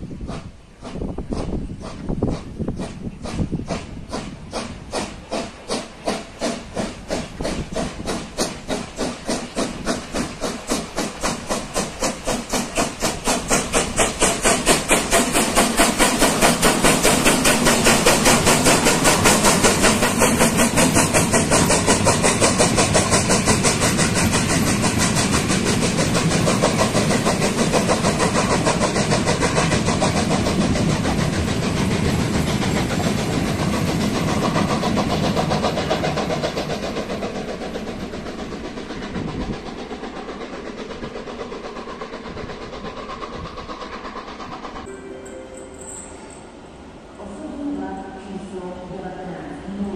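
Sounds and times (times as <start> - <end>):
steam locomotive chuffing: 0.0 - 49.9
train coaches rolling past: 0.0 - 49.9.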